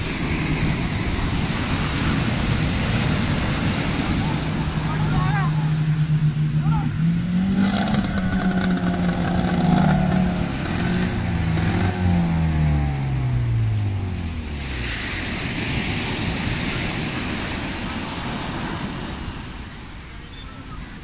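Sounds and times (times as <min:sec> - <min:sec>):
outboard motor running: 0:00.0 - 0:17.3
waves breaking on beach: 0:00.0 - 0:21.0.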